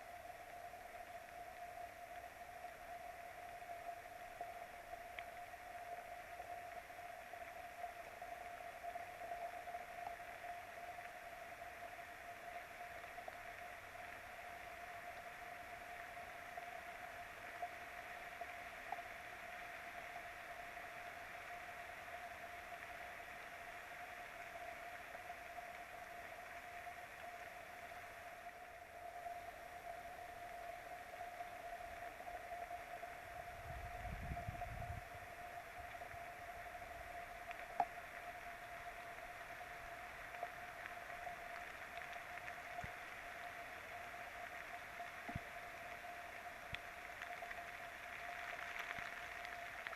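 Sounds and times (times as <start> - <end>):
constant electrical hum: 0.0 - 49.9
rain hissing: 0.0 - 49.9.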